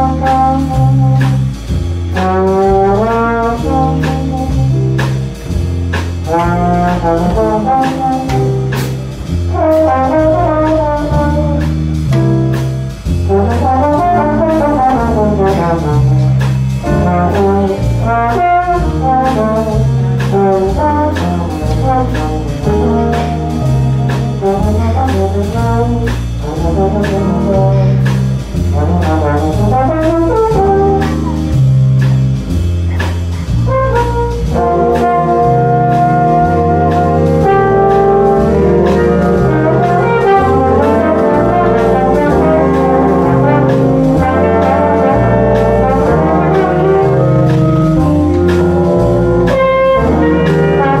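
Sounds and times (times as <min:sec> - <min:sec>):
jazz big band playing: 0:00.0 - 0:51.0.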